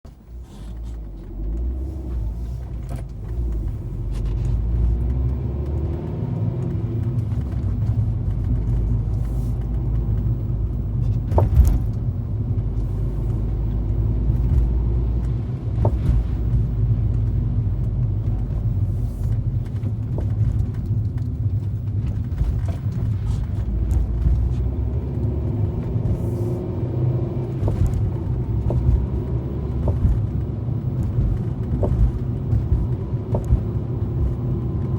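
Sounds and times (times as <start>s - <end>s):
car engine and road rumble: 0.0s - 34.9s
sharp clicks under car: 0.1s - 34.9s.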